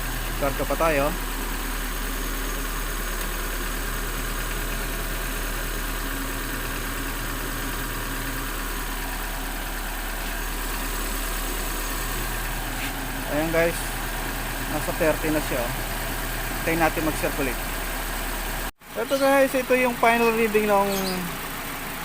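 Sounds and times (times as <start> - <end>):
air conditioning compressor running: 0.0 - 22.0
car engine idling: 0.0 - 22.0.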